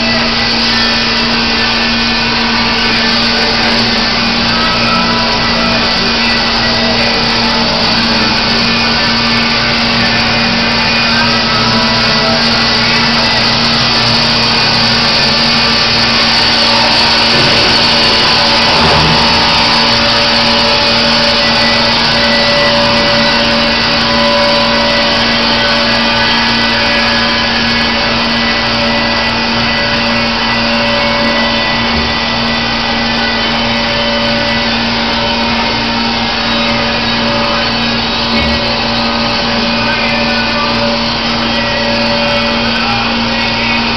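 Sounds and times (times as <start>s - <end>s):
band sawmill running: 0.0s - 43.9s.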